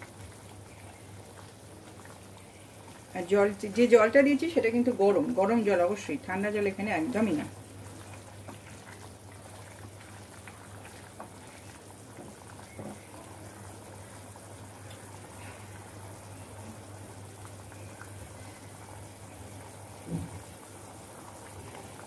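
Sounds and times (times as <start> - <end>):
low steady hum: 0.0 - 22.0
pot boiling with bubbling: 0.0 - 22.0.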